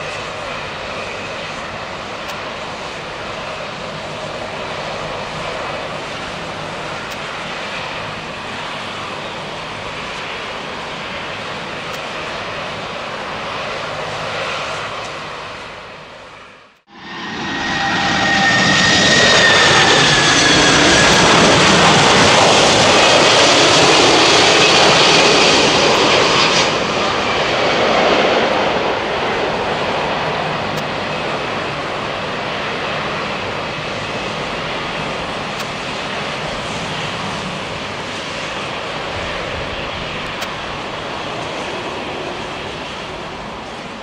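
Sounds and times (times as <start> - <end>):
jet engine whine: 0.0 - 44.0
jet rumble and hiss: 0.0 - 44.0.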